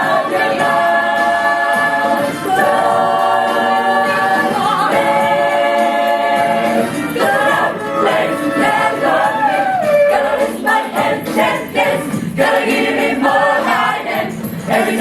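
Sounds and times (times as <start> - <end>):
choir singing gospel song: 0.0 - 15.0.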